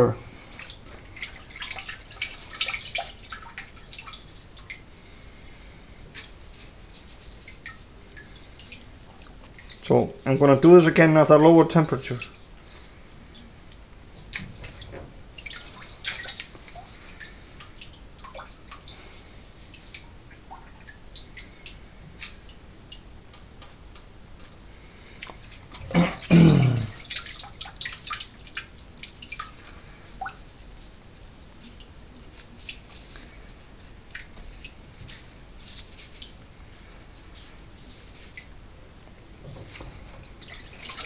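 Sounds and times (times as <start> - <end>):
water drips: 0.0 - 41.0
wet squelches: 0.2 - 41.0.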